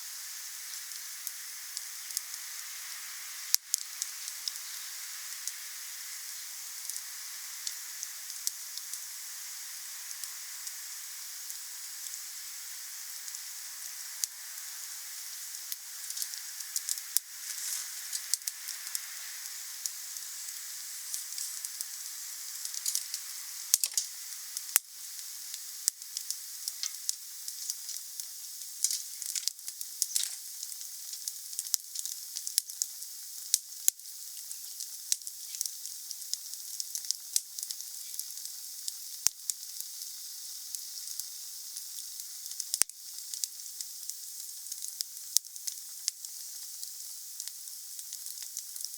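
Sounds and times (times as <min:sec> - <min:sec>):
wood fire hissing and popping: 0:00.0 - 0:48.9.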